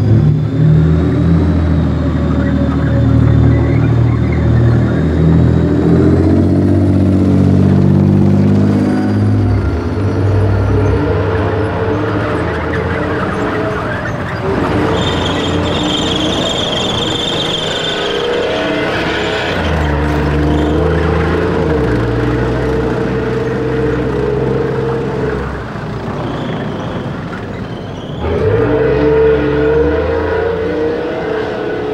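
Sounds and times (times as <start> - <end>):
high squeal: 0.0 - 31.9
tank engine revving: 0.0 - 31.9.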